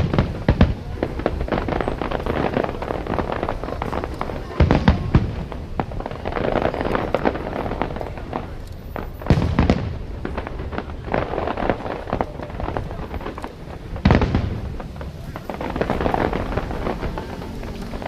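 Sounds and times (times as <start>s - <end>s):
fireworks booming: 0.0s - 18.0s
fireworks crackling: 0.0s - 18.0s.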